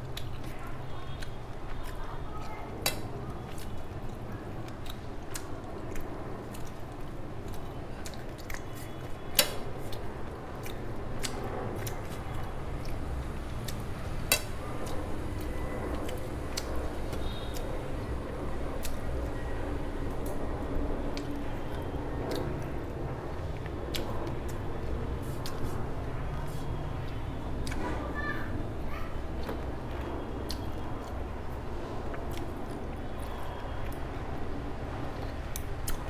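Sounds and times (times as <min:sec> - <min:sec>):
chewing and wet mouth sounds: 0:00.0 - 0:36.0.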